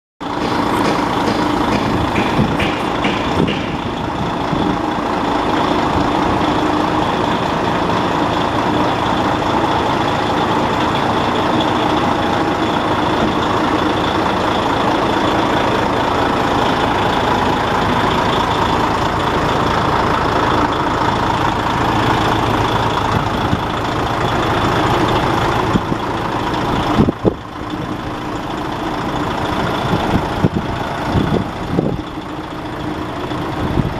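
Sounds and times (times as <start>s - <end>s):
diesel truck engine idling: 0.2s - 33.9s.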